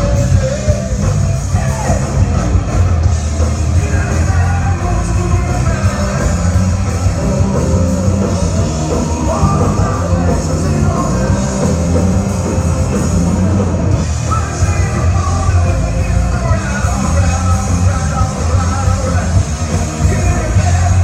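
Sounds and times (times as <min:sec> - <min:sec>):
lead vocal singing: 0:00.0 - 0:21.0
rock band playing: 0:00.0 - 0:21.0.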